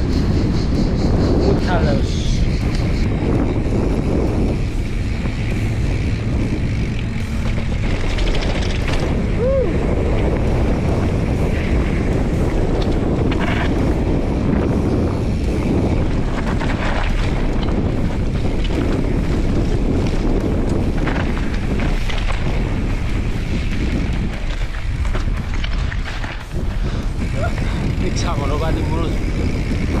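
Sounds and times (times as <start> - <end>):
wind buffeting microphone: 0.0 - 30.0
tyres rolling over gravel: 3.3 - 30.0.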